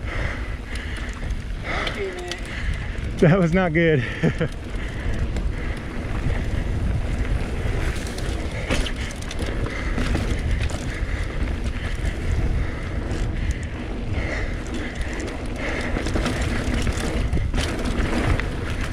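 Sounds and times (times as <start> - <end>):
bike rattling: 0.0 - 18.9
wind rumbling on microphone: 0.0 - 18.9
tyres running over dirt: 0.1 - 18.9.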